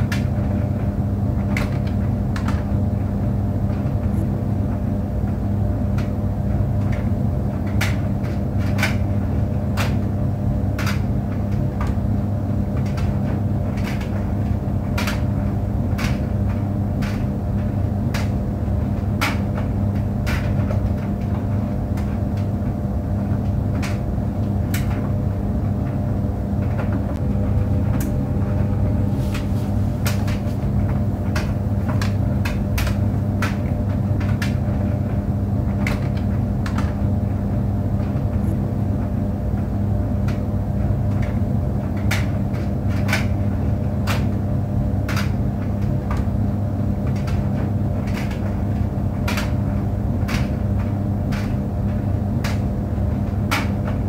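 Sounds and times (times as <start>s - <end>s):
clothes dryer humming: 0.0s - 54.0s.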